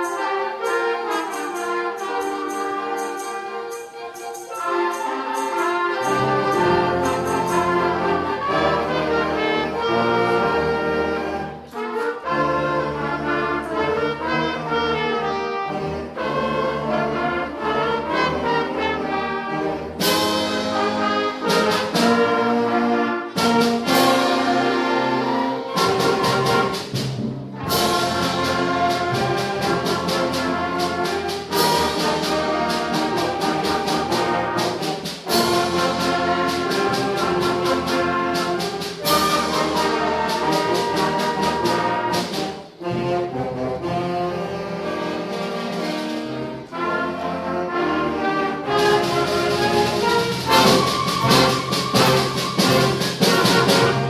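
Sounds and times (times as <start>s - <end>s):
concert band playing: 0.0s - 54.0s.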